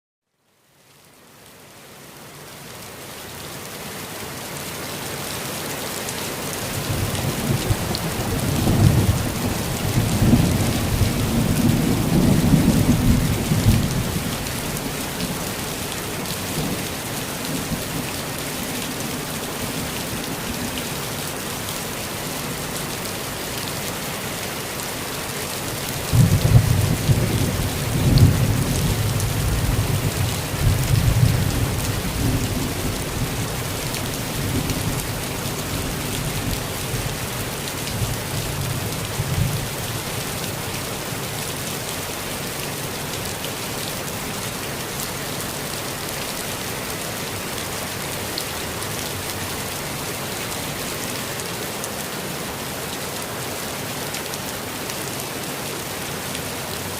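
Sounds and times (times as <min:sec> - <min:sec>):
steady rainfall: 0:00.3 - 0:56.9.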